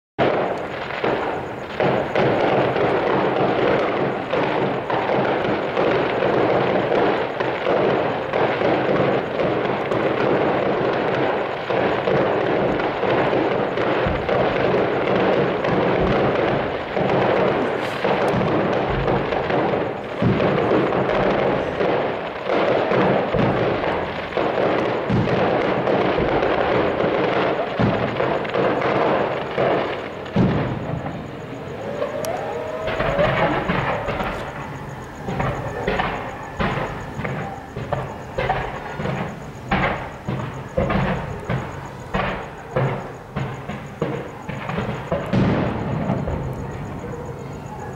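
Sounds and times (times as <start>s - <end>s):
fireworks bangs and crackle: 0.2s - 47.9s.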